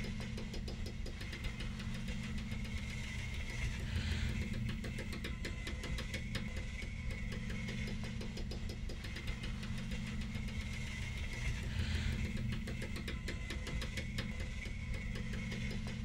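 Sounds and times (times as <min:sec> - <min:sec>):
low mechanical drone with ticking: 0:00.0 - 0:16.0.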